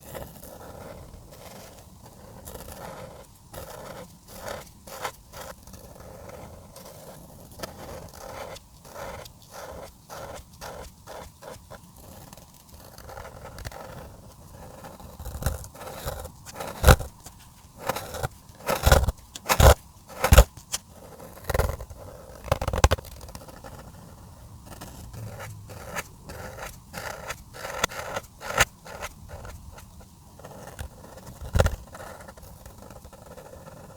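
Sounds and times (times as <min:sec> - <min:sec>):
marker scraping on paper: 0:00.1 - 0:33.9.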